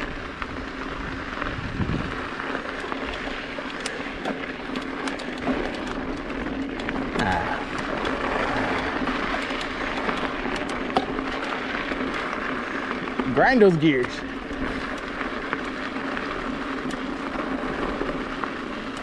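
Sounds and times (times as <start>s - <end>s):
bike ticking and rattling: 0.0s - 19.0s
bike tyres rolling on gravel: 0.0s - 19.0s.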